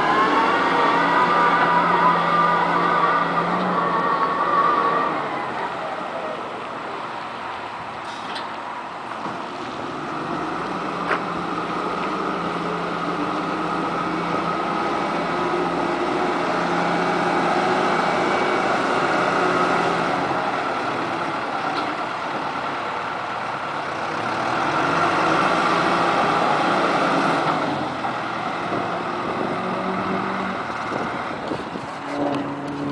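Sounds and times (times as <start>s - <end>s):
excavator diesel engine running: 0.0s - 7.2s, 9.1s - 32.9s.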